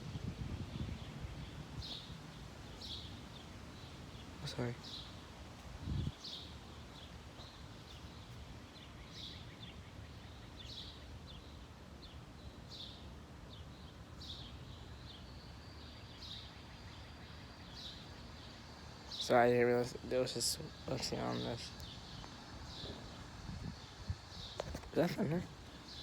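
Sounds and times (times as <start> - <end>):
background hiss: 0.0 - 26.0
birds chirping: 0.7 - 26.0.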